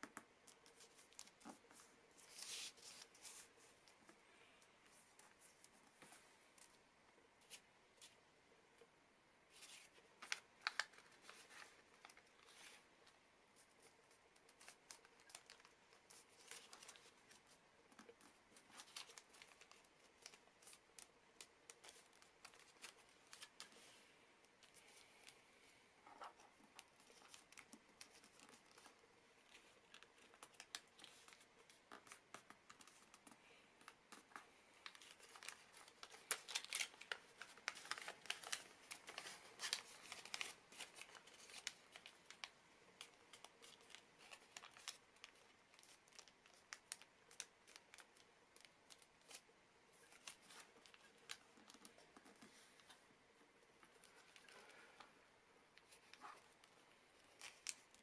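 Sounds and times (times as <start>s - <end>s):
paper crinkling as folded: 0.5s - 4.0s, 9.5s - 25.4s, 26.2s - 53.0s, 55.8s - 58.0s.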